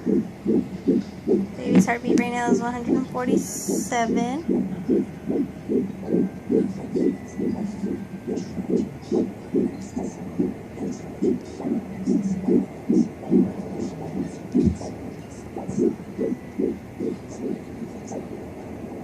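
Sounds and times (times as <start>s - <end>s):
fetal heartbeat on doppler monitor: 0.0s - 19.0s.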